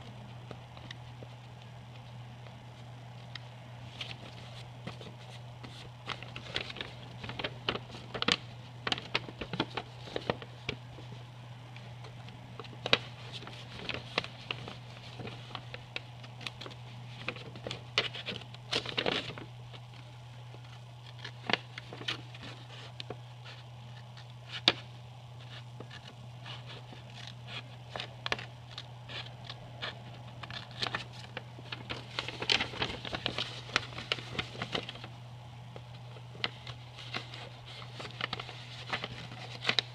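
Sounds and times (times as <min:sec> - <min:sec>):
paper rustling and crackling: 0:00.0 - 0:39.9
steady low hum: 0:00.0 - 0:39.9.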